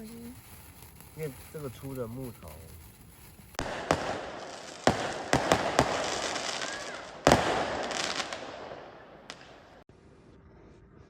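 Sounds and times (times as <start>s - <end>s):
fireworks banging and crackling: 0.0s - 9.9s.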